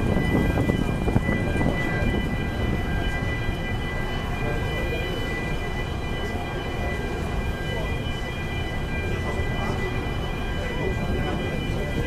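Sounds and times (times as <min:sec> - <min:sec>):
ship engines rumbling: 0:00.0 - 0:12.0.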